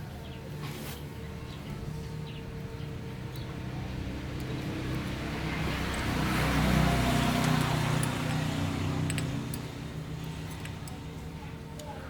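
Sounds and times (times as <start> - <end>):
vehicle engine humming: 1.7 - 11.5.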